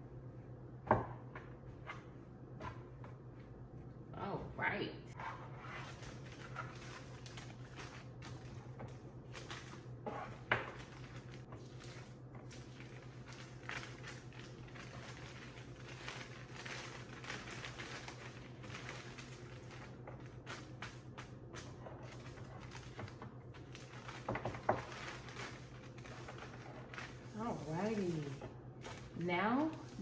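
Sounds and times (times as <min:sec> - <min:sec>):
steady low hum: 0:00.0 - 0:30.0
plastic bag crinkling: 0:05.8 - 0:30.0.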